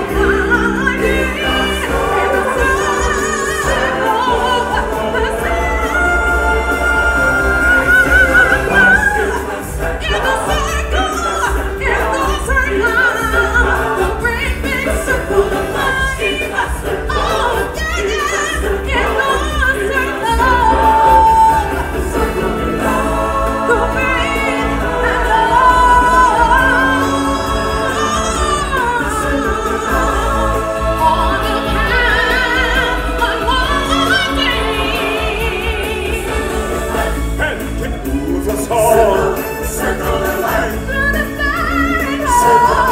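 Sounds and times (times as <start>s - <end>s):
orchestral accompaniment: 0.0s - 42.9s
singers and choir: 0.0s - 42.9s.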